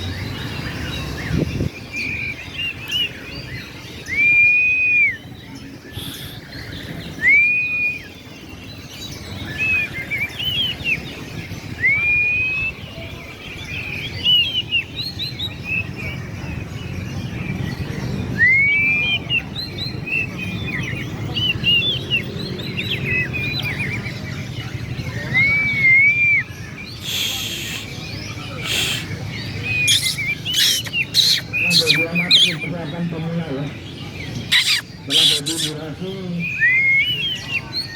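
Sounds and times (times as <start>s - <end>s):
songbirds singing: 0.0s - 37.9s
crowd murmur: 2.8s - 37.9s.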